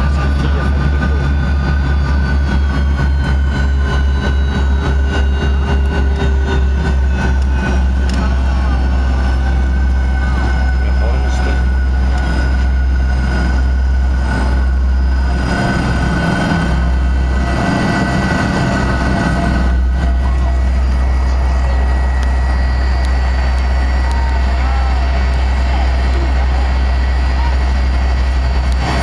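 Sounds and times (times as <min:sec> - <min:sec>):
jet engines rumbling and whining: 0:00.0 - 0:29.0.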